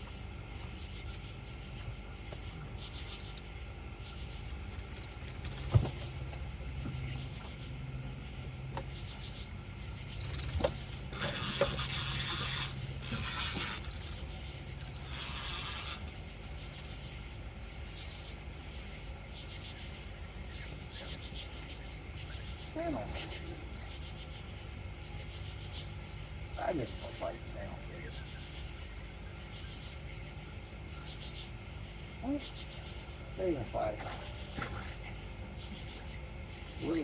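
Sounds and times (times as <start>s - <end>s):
low steady hum: 0.0s - 37.0s
night insects trilling: 0.0s - 37.0s.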